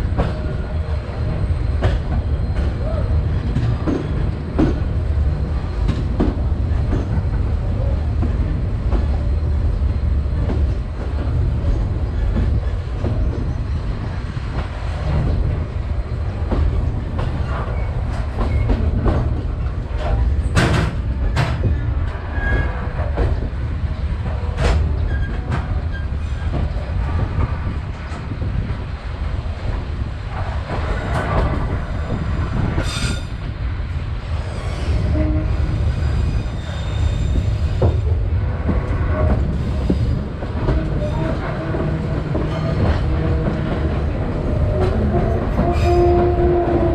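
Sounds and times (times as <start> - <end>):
train rumbling along track: 0.0 - 46.9.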